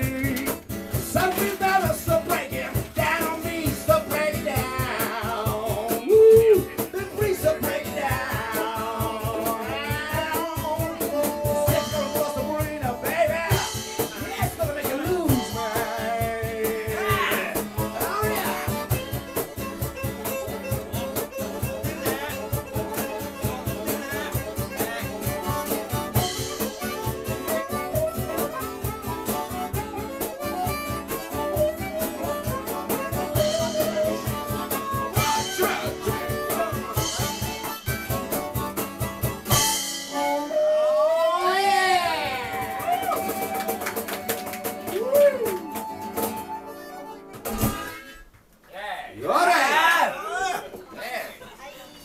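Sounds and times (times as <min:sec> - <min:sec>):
steady beat: 0:00.0 - 0:40.5, 0:41.9 - 0:48.6
strummed acoustic guitar: 0:00.0 - 0:40.6, 0:42.2 - 0:48.5
blues harmonica: 0:00.0 - 0:48.5.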